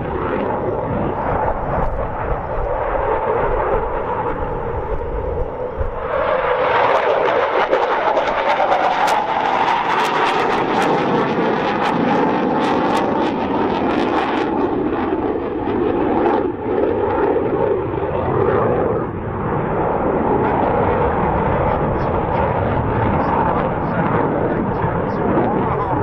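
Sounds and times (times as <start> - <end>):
jet engine crackle: 0.0 - 26.0
jet engines roaring: 0.0 - 26.0.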